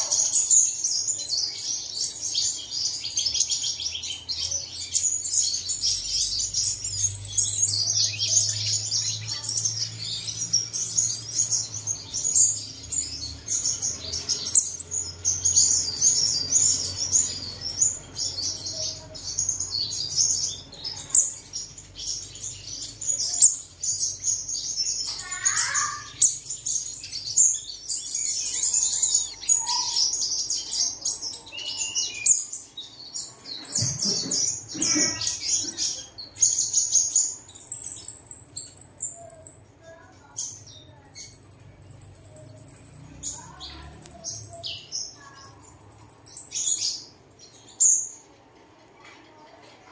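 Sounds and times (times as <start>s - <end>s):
bird twittering song: 0.0s - 48.4s.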